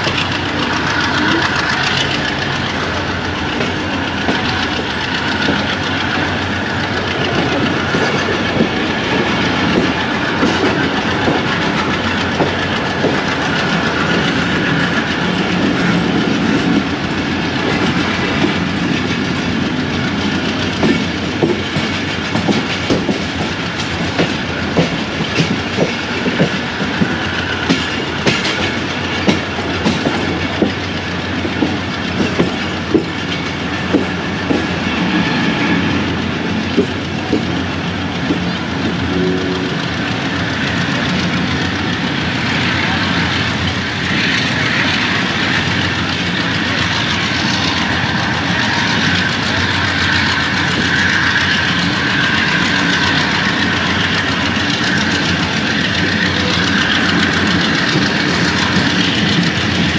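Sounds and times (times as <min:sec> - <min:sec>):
train rumble: 0:00.0 - 0:59.9
wheels clacking over rail joints: 0:00.0 - 0:59.9.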